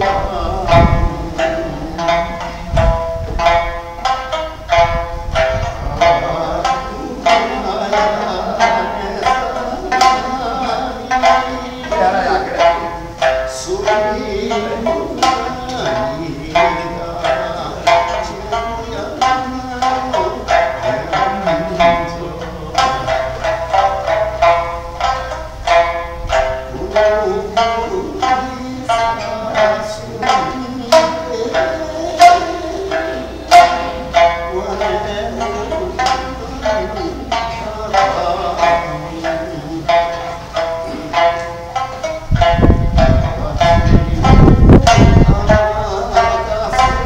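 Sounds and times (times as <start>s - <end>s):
plucked string instrument: 0.0s - 47.0s.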